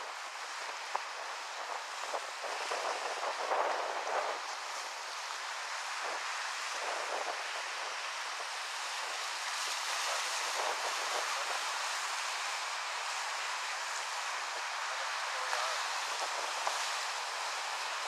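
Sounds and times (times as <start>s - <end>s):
small waves washing onto shore: 0.0s - 18.0s.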